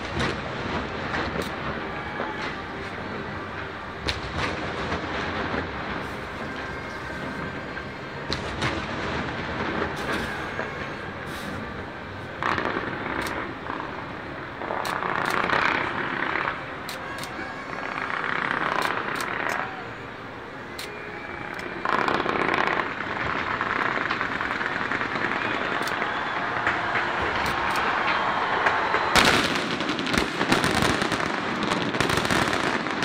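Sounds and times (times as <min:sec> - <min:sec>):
rumble of firework bursts: 0:00.0 - 0:19.8, 0:21.6 - 0:33.0
sharp firework cracks: 0:00.0 - 0:19.8, 0:21.6 - 0:33.0
firework crackling: 0:00.0 - 0:33.0.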